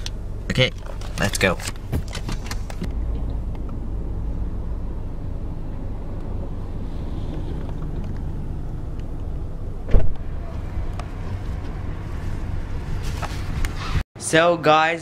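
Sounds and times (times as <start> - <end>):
low rumble of vehicle noise: 0.0 - 14.0.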